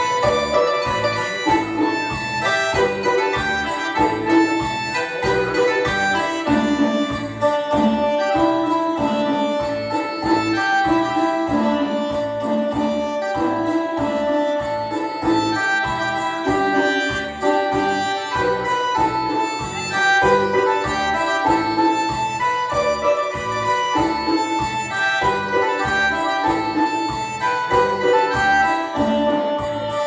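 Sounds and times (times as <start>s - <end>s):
melody of long held notes: 0.0s - 30.0s.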